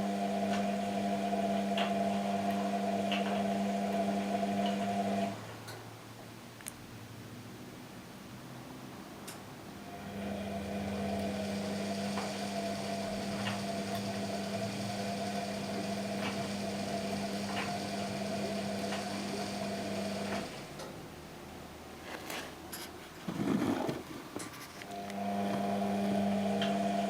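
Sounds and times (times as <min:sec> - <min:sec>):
washing machine motor hum: 0:00.0 - 0:05.7, 0:09.8 - 0:22.0, 0:23.1 - 0:27.0.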